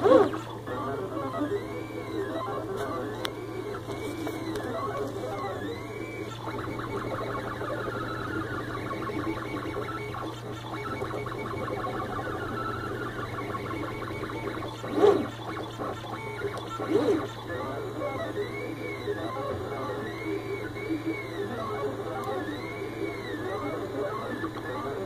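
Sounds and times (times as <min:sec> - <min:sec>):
steady low hum: 0:00.0 - 0:25.0
stepper motors whining: 0:00.0 - 0:25.0.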